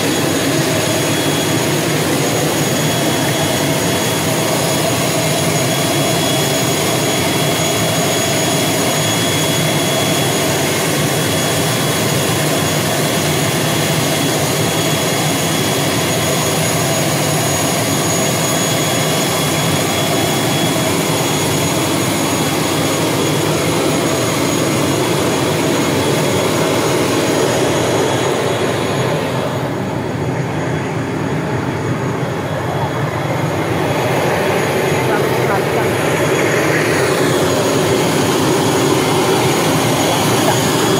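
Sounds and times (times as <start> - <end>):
high turbine whine: 0.0 - 40.9
turboprop engine running: 0.0 - 40.9.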